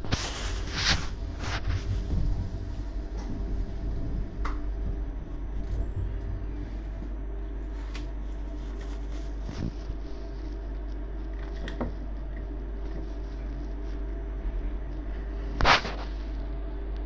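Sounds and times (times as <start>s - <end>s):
train running rumble and hum: 0.0s - 17.0s.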